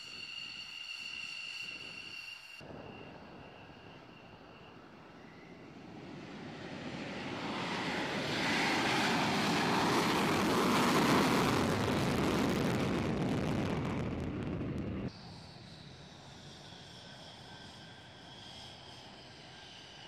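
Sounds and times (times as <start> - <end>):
fighter jet engine roaring: 2.7 - 20.0.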